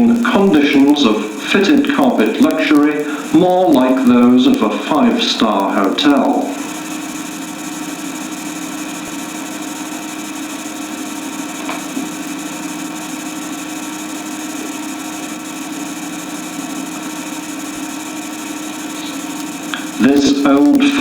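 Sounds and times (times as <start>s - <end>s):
constant hiss: 0.0s - 21.0s
machine hum: 0.0s - 21.0s.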